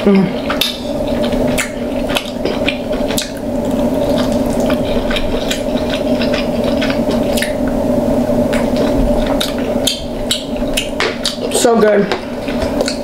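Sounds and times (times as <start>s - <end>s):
steady low hum: 0.0s - 13.0s
wet chewing and mouth smacking: 0.3s - 7.8s, 8.4s - 13.0s.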